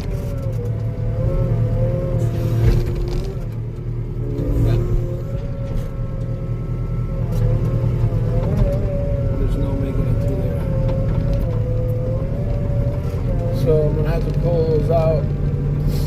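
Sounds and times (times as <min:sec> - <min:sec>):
wavering whine: 0:00.0 - 0:15.8
skid steer engine running: 0:00.0 - 0:16.0.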